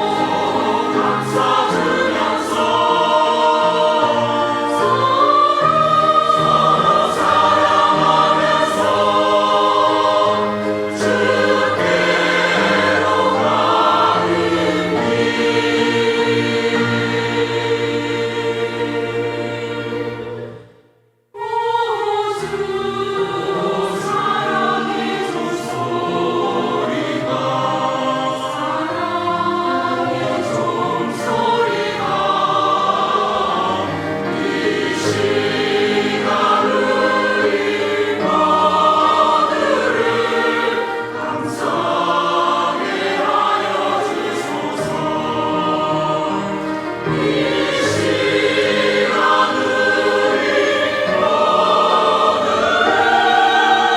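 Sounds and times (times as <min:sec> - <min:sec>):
choir singing a hymn: 0:00.0 - 0:20.8, 0:21.4 - 0:53.9.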